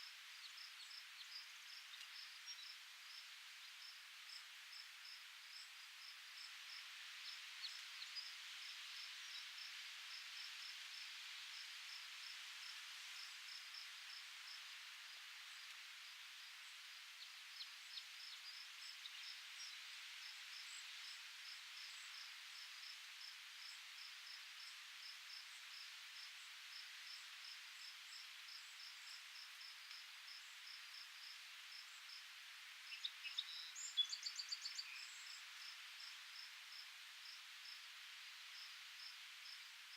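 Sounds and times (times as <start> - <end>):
soft hiss: 0.0 - 39.9.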